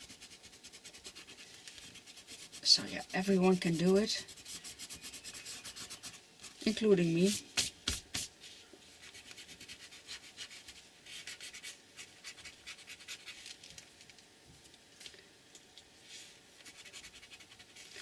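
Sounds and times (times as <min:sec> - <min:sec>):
scratching strokes on paper: 0:00.0 - 0:13.4, 0:16.1 - 0:18.0.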